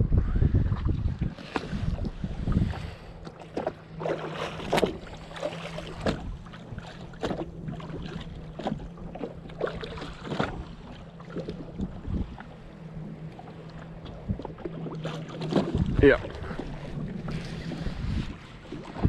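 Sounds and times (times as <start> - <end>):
steady low hum: 0.0 - 19.0
waves slapping against hull: 0.0 - 19.0.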